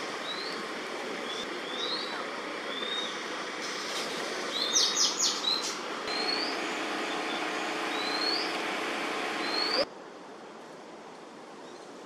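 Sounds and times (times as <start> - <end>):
songbirds calling: 0.0 - 9.9
steady background noise: 0.0 - 12.0.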